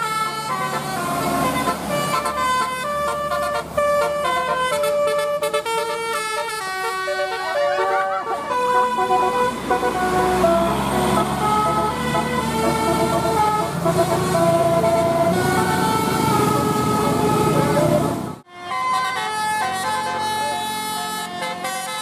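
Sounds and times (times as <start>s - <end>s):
musical vehicle horn: 0.0s - 22.0s.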